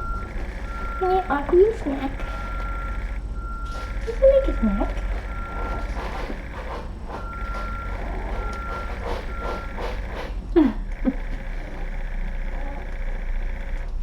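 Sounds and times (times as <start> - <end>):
reversing alarm beeping: 0.0 - 13.8.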